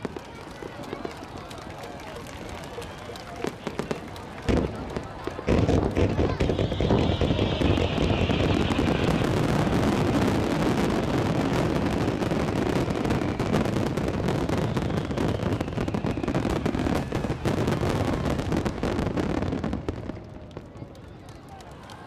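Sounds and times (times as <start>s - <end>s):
fireworks bursting: 0.0s - 20.5s.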